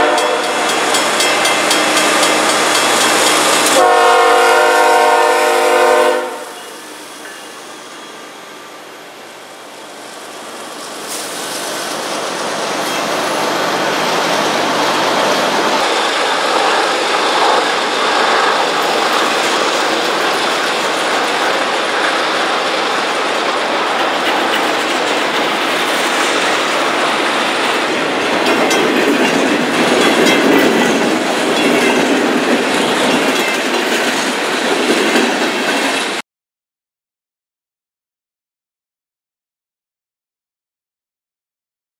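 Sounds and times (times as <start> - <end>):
freight train wheels on rails: 0.0 - 36.2.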